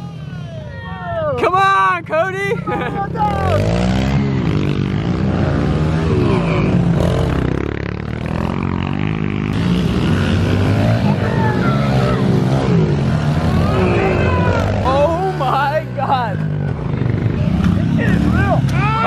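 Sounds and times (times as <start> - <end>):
pit bike engines revving: 0.0 - 19.0.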